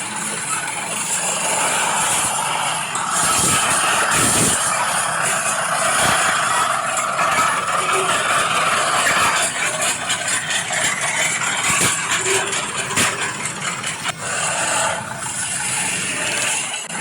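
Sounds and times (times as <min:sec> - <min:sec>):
motor and gear whine: 0:00.0 - 0:17.0.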